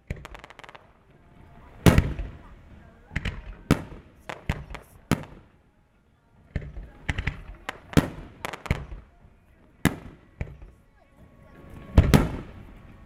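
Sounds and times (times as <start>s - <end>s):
fireworks bursting: 0.0s - 5.7s, 6.4s - 13.0s.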